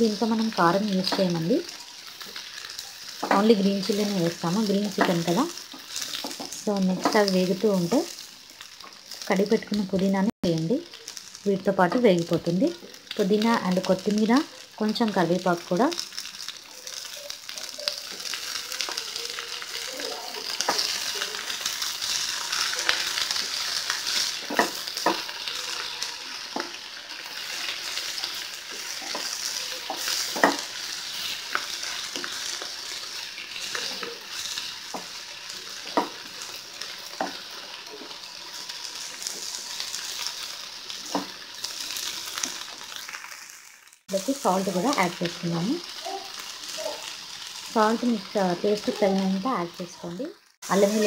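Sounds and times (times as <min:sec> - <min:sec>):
vegetables sizzling in hot oil: 0:00.0 - 0:51.0.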